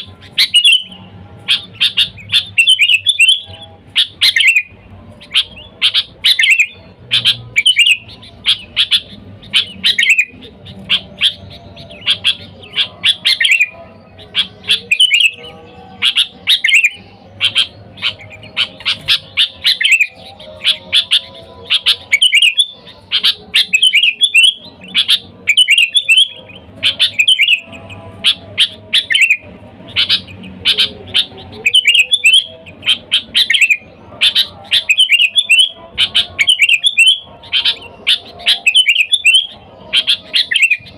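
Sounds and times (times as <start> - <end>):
bulbul chirping: 0.0 - 40.9.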